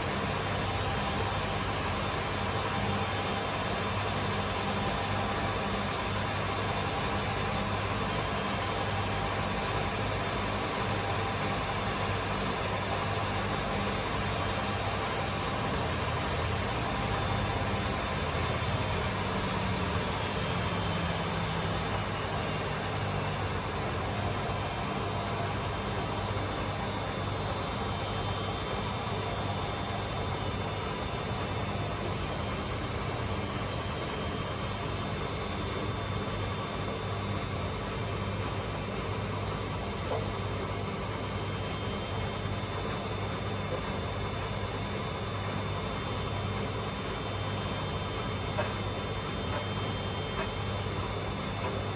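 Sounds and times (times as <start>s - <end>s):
faint high whine: 0.0s - 51.9s
washing machines spinning: 0.0s - 51.9s.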